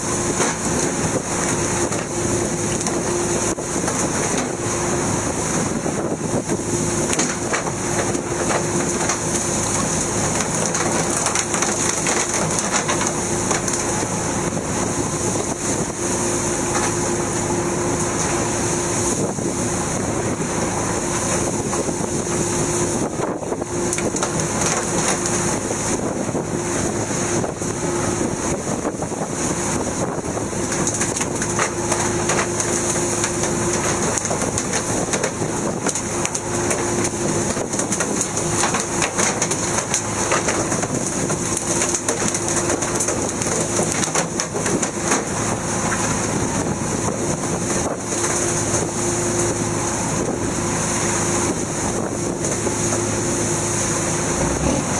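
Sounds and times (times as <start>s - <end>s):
boat engine running: 0.0s - 54.9s
sea noise: 0.0s - 54.9s
steady hum: 0.0s - 54.9s
wind: 0.0s - 54.9s.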